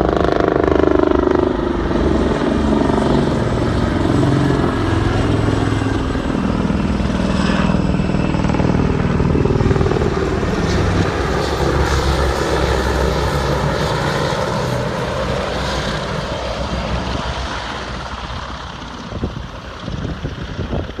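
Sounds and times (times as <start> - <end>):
helicopter flying past: 0.0 - 21.0.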